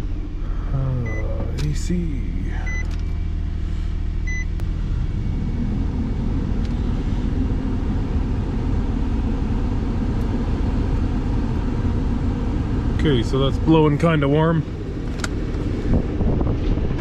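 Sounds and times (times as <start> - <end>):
blower fan blowing air: 0.0 - 17.0
car engine idling: 0.0 - 17.0.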